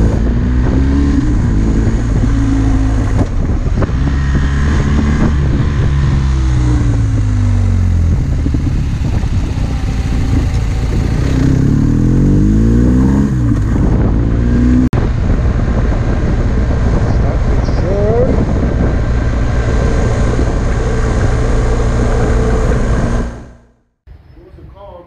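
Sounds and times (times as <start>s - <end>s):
wind rush: 0.0s - 23.7s
motorcycle engine: 0.0s - 24.0s.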